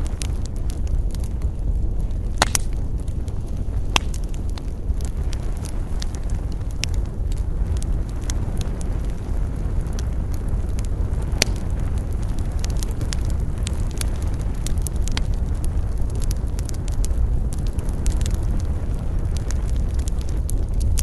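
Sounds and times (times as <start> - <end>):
campfire crackling and popping: 0.0 - 21.0
steady low rumble: 0.0 - 21.0.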